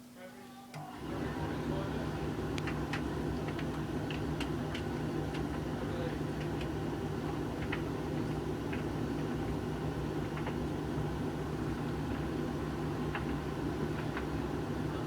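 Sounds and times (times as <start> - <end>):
tumble dryer humming: 0.7 - 15.0.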